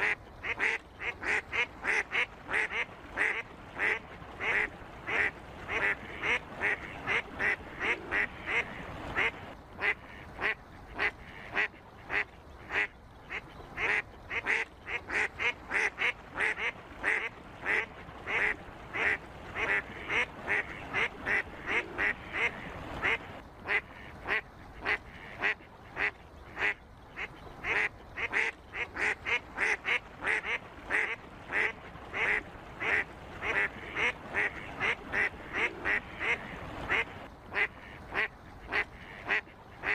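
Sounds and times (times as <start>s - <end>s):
ducks calling: 0.0s - 39.9s.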